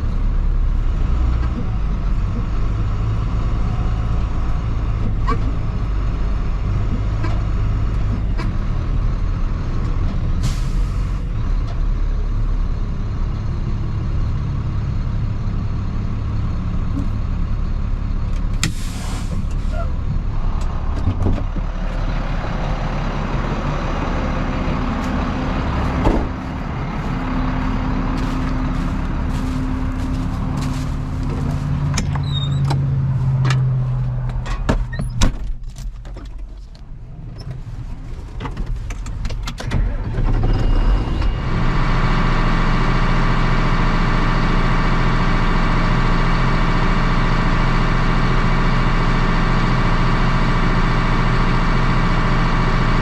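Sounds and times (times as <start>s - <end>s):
farm machinery engines running: 0.0s - 53.0s.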